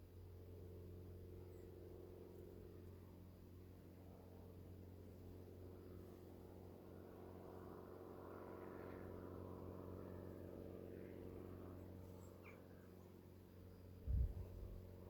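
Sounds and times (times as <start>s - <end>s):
distant engine drone: 0.1s - 15.0s.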